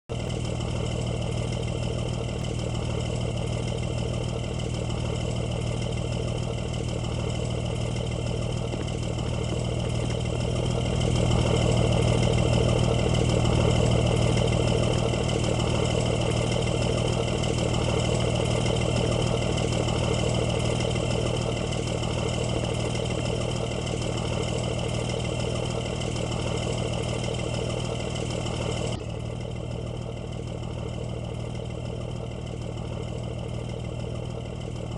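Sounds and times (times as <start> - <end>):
bus engine idling: 0.1 - 34.9.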